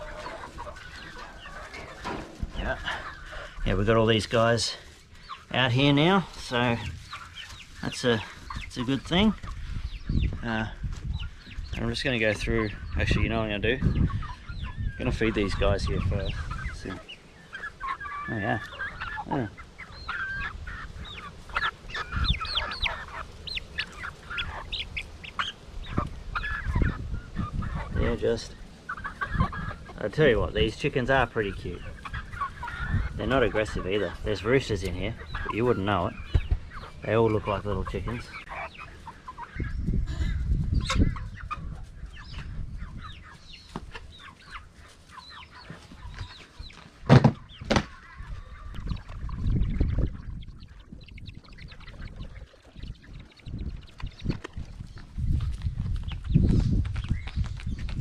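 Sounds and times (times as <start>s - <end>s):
wind buffeting microphone: 0.0s - 4.2s, 6.3s - 16.9s, 20.0s - 23.6s, 24.3s - 44.2s, 47.3s - 58.0s
young chickens chirping and squawking: 0.0s - 58.0s.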